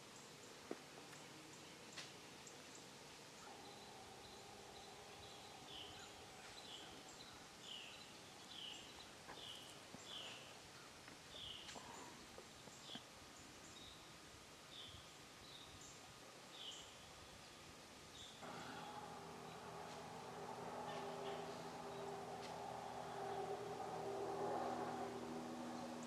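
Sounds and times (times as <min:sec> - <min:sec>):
quiet woodland background: 0:00.0 - 0:26.0.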